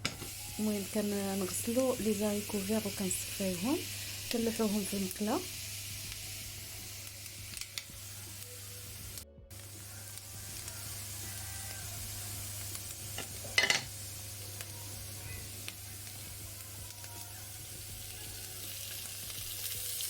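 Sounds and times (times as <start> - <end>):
beans sizzling in a frying pan: 0.0 - 20.0.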